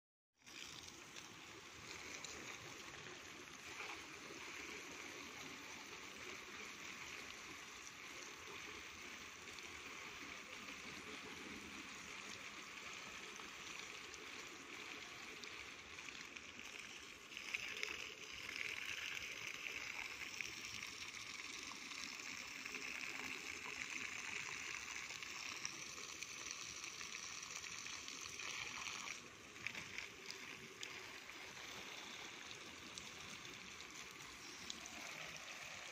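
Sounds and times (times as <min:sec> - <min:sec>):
hose water splashing on ground: 0:00.4 - 0:35.9.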